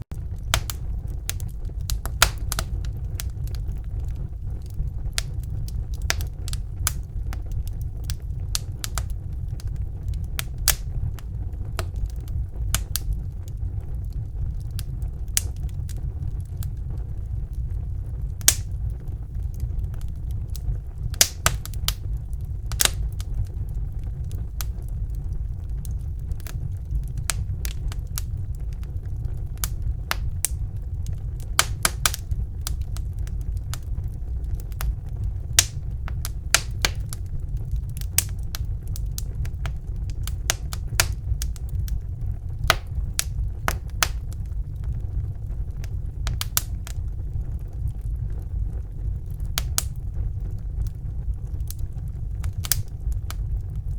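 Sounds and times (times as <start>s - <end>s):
fire crackling in fireplace: 0.0s - 53.9s.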